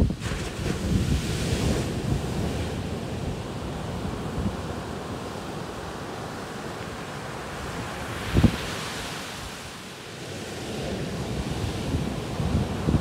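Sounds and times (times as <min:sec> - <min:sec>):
small waves washing on shore: 0:00.0 - 0:13.0
wind rumble on microphone: 0:00.0 - 0:13.0.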